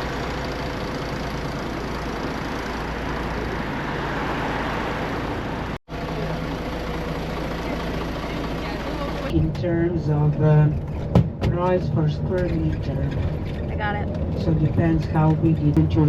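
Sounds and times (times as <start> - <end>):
low hum: 0.0 - 16.0
vehicle engine and road noise: 0.0 - 16.0.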